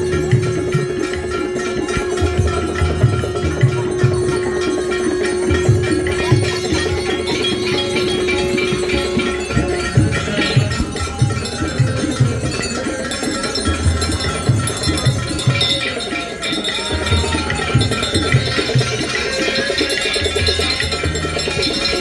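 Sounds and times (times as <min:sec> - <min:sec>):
bell-like ringing: 0:00.0 - 0:22.0
music with steady drum beat: 0:00.0 - 0:22.0.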